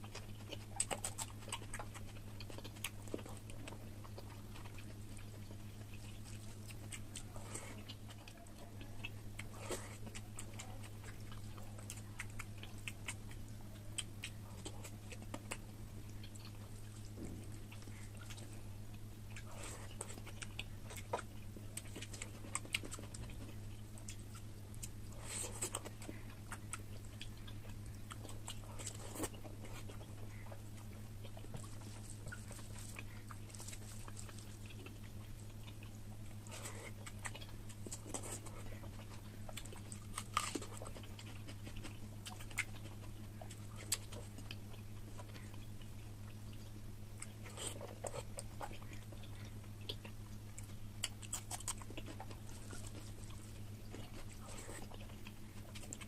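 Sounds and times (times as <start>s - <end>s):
chewing and biting: 0.0s - 56.0s
steady low hum: 0.0s - 56.0s.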